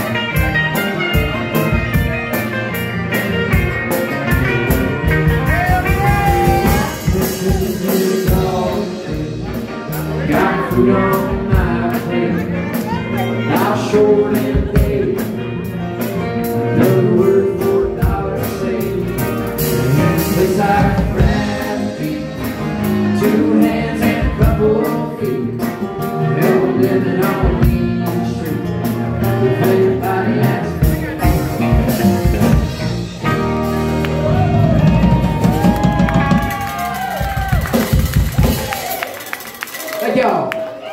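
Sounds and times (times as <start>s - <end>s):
live country band playing: 0.0s - 40.9s.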